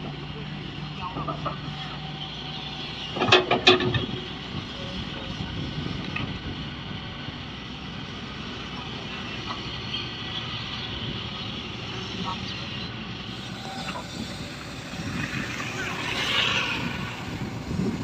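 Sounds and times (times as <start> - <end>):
excavator running: 0.0 - 18.0.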